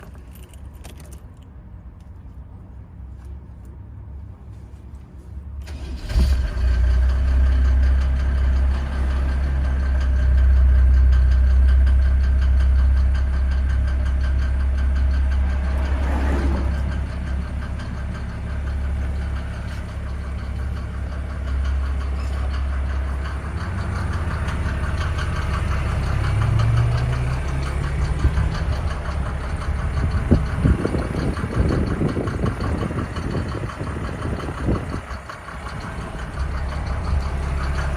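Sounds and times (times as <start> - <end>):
diesel engine starting and idling: 0.0 - 37.9.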